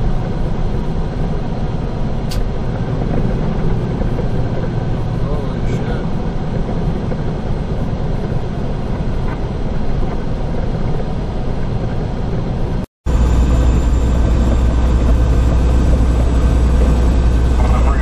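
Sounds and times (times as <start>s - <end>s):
road noise: 0.0s - 18.0s
truck diesel engine rumble: 0.0s - 18.0s.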